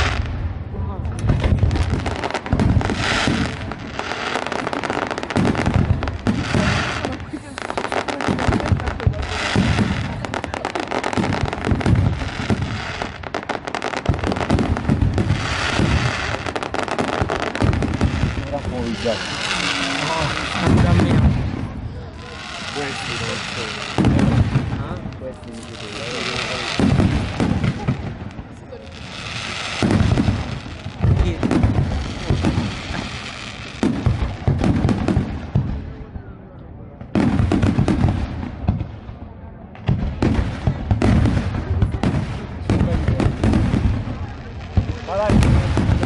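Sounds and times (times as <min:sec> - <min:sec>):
fireworks hissing bursts: 0:00.0 - 0:00.5, 0:01.2 - 0:35.8, 0:39.8 - 0:46.0
fireworks bangs and crackles: 0:00.0 - 0:46.0.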